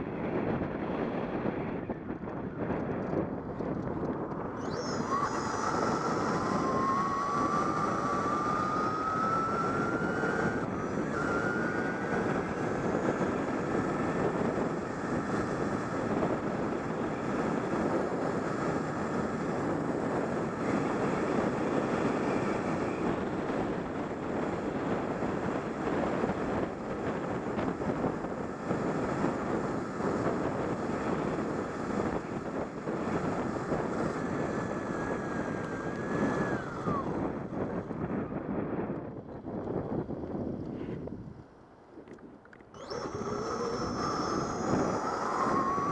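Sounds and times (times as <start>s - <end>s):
wind rushing over microphone: 0.0s - 45.9s
electric motor whining: 2.4s - 39.0s, 42.1s - 45.9s.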